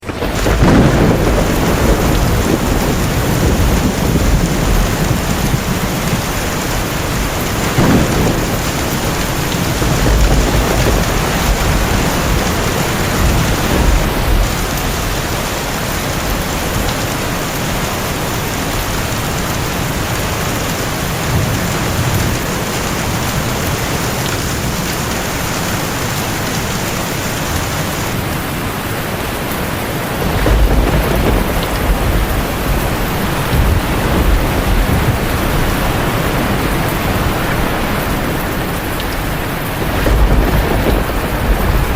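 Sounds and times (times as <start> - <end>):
heavy rain pouring: 0.0 - 41.9
thunder rumbling: 0.0 - 41.9.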